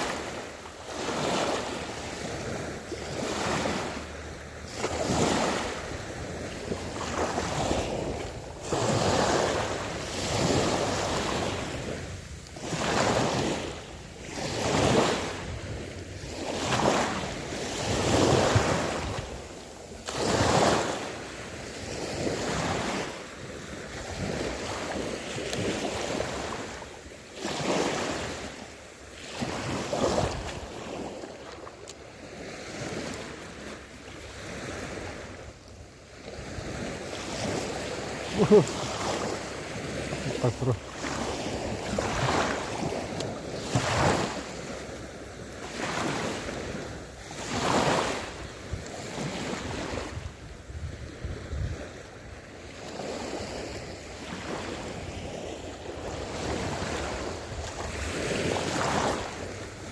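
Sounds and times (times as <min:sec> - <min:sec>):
small waves washing on shore: 0:00.0 - 0:59.9.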